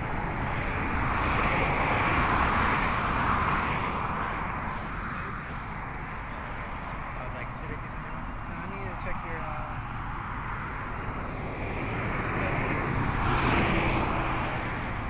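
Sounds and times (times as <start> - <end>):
car passing tyre and road noise: 0.0 - 15.0.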